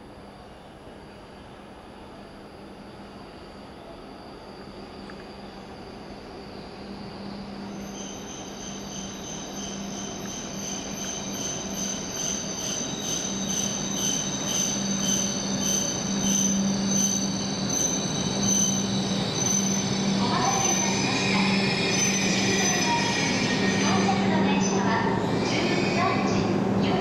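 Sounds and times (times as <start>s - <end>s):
train low hum: 0.0s - 27.0s.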